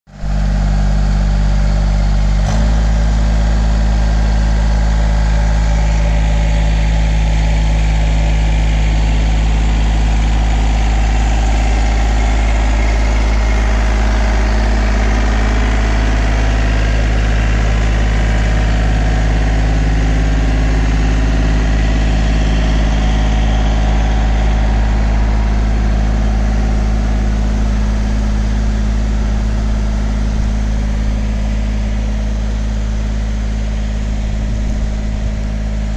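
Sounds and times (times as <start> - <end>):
tractor diesel engine running: 0.1 - 35.9.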